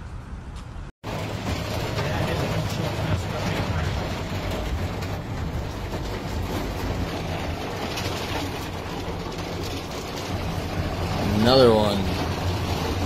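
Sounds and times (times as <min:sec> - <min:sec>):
hail clattering: 0:01.0 - 0:13.0
deep rumble: 0:01.1 - 0:13.0.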